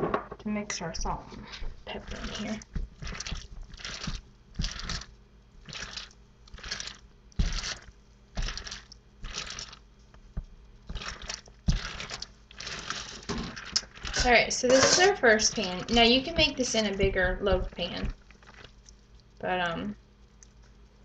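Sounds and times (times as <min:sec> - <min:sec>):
wet squishing of kneaded meat: 0:01.9 - 0:21.0.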